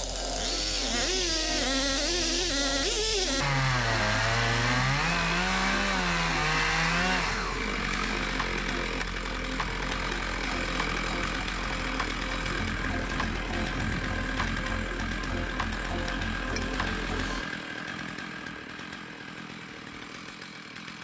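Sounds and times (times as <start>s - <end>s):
chainsaw cutting log: 0.0s - 21.0s
rough mechanical noise: 0.0s - 21.0s.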